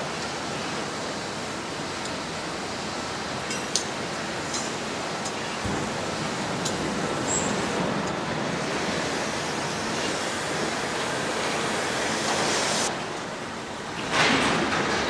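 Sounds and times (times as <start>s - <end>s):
steady rushing noise: 1.2s - 15.0s.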